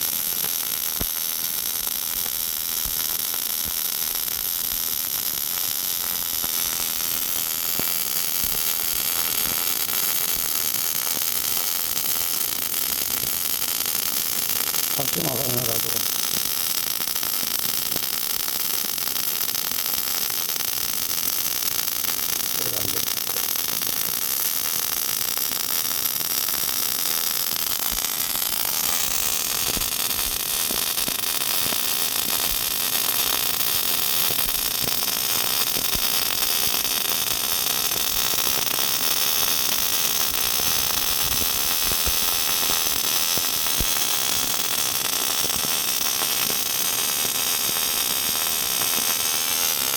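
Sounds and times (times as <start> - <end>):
welding arc hissing: 0.0 - 49.9.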